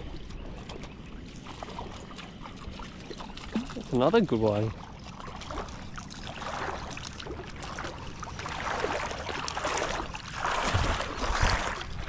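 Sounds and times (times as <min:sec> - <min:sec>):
shallow water sloshing: 0:00.0 - 0:12.0.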